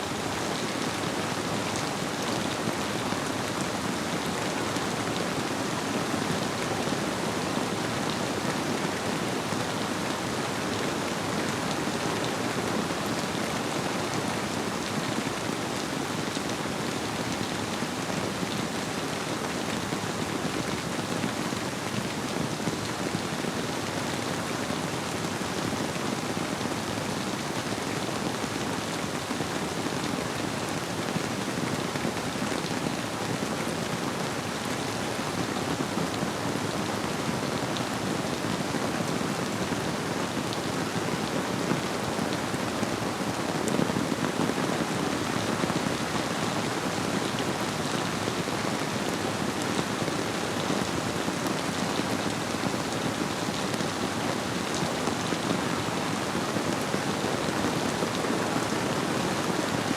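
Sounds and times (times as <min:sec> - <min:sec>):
rain falling: 0:00.1 - 0:59.9.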